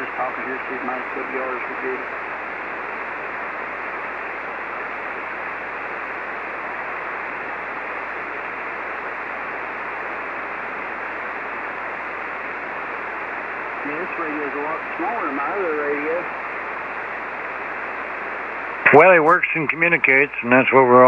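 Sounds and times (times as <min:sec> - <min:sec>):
radio receiver static hiss: 0:00.0 - 0:21.0.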